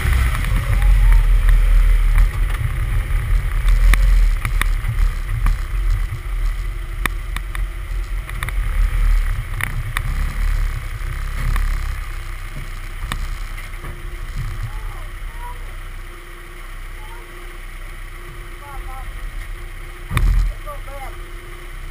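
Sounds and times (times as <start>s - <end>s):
tyre noise: 0.0s - 21.9s
wind buffeting: 0.0s - 21.9s.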